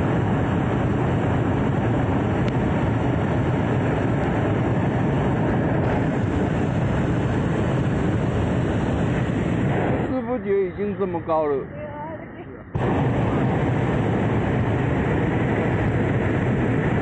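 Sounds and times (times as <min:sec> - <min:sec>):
propane burner firing: 0:00.0 - 0:10.2, 0:12.8 - 0:17.0.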